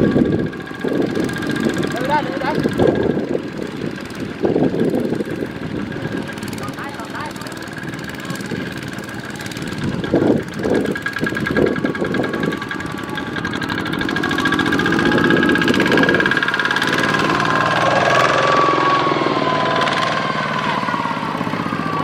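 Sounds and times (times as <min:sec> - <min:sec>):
walking tractor diesel engines: 0:00.0 - 0:22.0.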